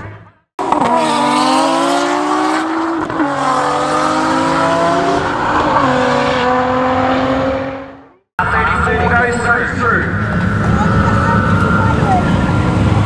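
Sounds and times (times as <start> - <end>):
car engines accelerating hard: 0.6 - 13.0.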